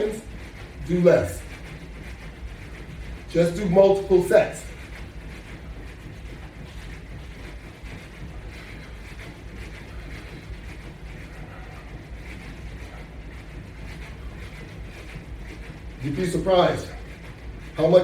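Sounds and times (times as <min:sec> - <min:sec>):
soft rhythmic swishing: 0:00.0 - 0:18.0
steady low hum: 0:00.0 - 0:18.0.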